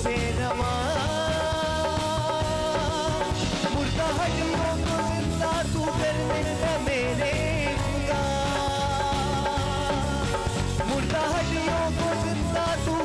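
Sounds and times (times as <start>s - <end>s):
keyboard: 0.0s - 13.0s
wavering melodic lead line: 0.0s - 13.0s.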